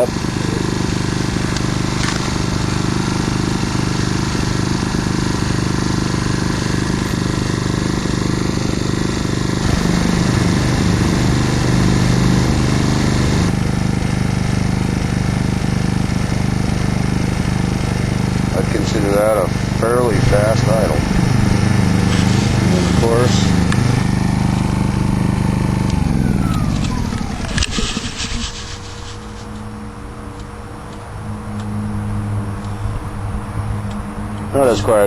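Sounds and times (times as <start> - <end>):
generator engine idling: 0.0 - 29.8, 34.1 - 35.0.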